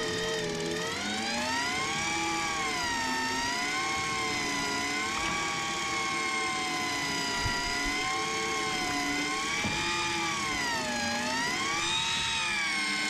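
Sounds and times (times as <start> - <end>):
fishing reel motor whining: 0.0 - 13.0.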